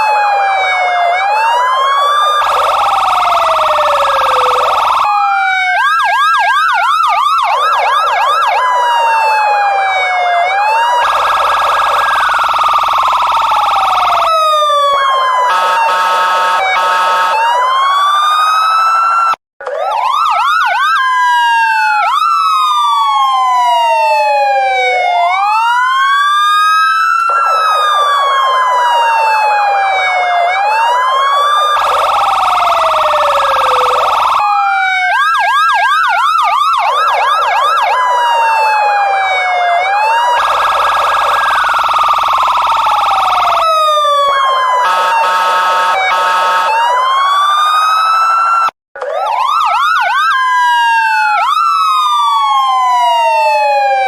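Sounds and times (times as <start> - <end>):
police car siren: 0.0 - 54.0.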